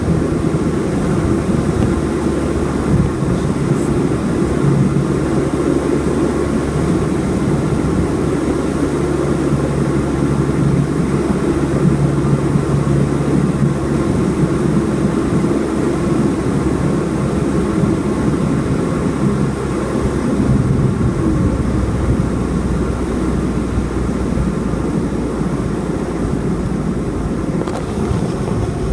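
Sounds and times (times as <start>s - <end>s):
propeller plane engine droning: 0.0s - 28.9s.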